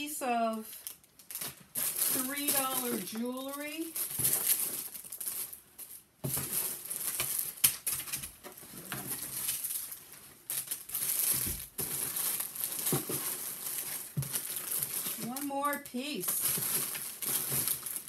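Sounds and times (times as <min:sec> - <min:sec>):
jewelry rustling and clicking: 0:00.6 - 0:18.0.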